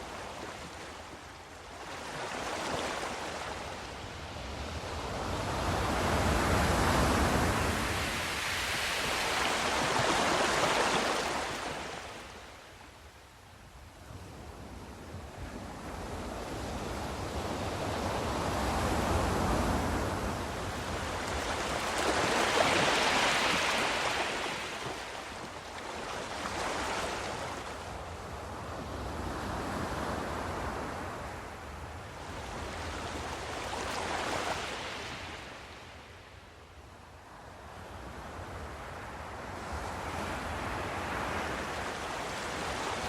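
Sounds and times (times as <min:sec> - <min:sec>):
ocean waves washing in and back: 0:00.0 - 0:43.0.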